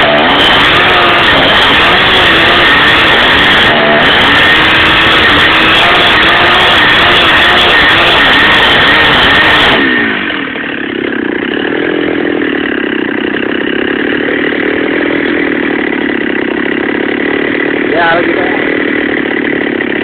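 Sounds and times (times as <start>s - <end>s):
chainsaw engine revving and idling: 0.0s - 20.0s.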